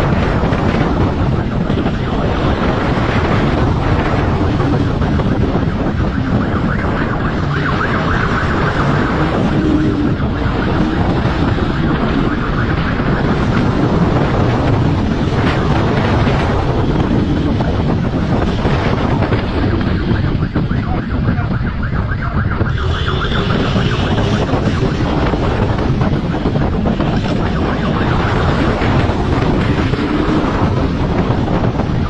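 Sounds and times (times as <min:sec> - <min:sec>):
road noise: 0:00.0 - 0:32.0
wind rushing over microphone: 0:00.0 - 0:32.0.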